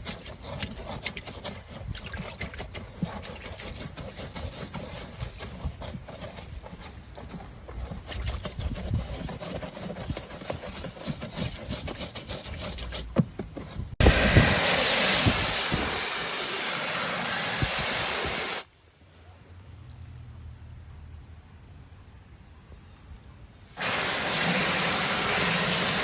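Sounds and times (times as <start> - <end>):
hose nozzle spraying water on plastic: 0.0 - 18.7, 23.7 - 26.0.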